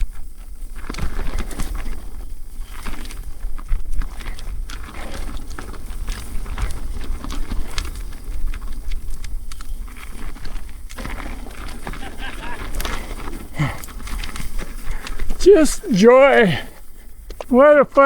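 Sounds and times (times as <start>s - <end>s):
bike clicks and rattles: 0.0s - 18.0s
bike tyre noise on dirt: 0.0s - 18.0s
wind rumbling on microphone: 0.0s - 18.0s.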